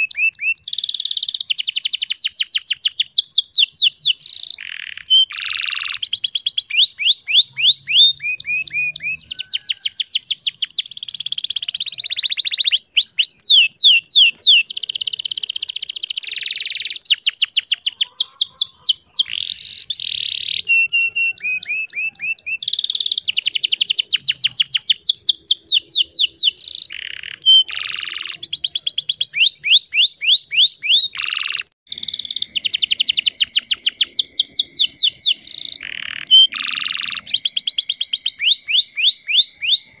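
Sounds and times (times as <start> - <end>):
canary singing trills: 0.0 - 40.0.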